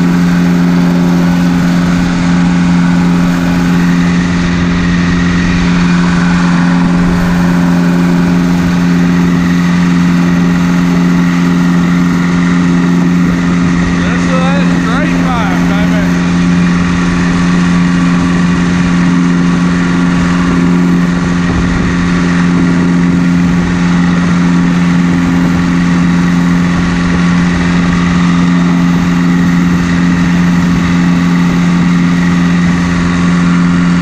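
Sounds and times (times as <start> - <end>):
loud tractor engine running: 0.0 - 34.0.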